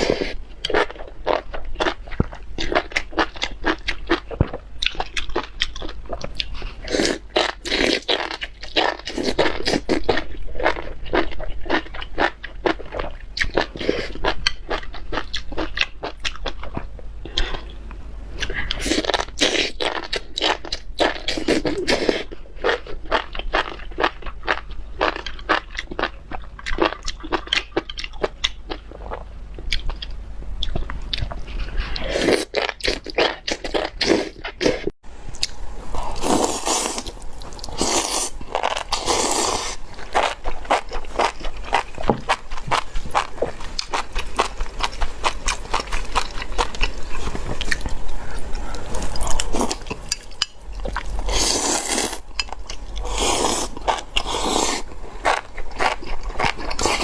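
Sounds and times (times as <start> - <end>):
mouth chewing crunchy food: 0.0 - 17.8, 18.4 - 57.0.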